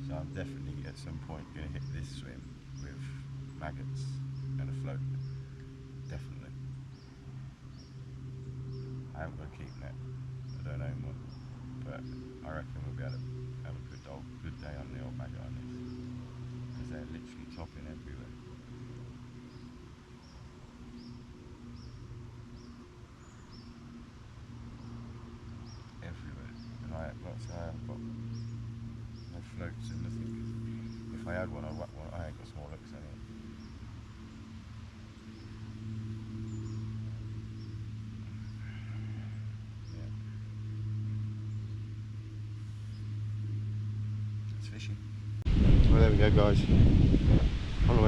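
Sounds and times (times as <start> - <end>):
steady low drone: 0.0 - 48.0
steady low hum: 0.0 - 48.0.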